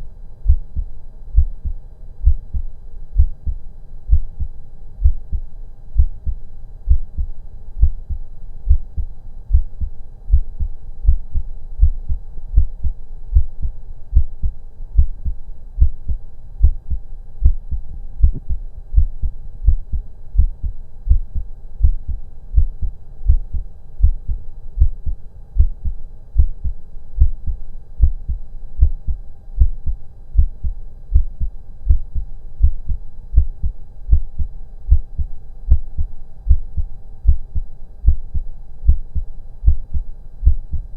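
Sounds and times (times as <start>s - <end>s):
faint steady hum: 0.0s - 40.9s
heartbeat thuds: 0.5s - 40.9s.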